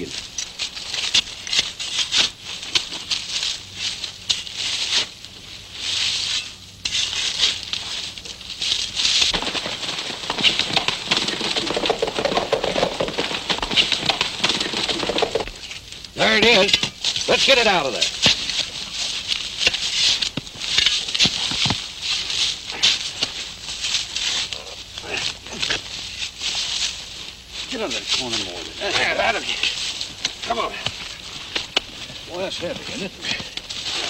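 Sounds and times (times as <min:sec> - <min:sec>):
shovels digging stony ground: 0:00.0 - 0:34.0.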